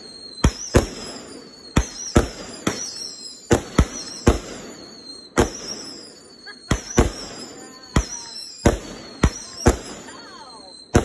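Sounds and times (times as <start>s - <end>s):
faint firework crackling: 0.0s - 11.0s
firework bangs: 0.0s - 11.0s.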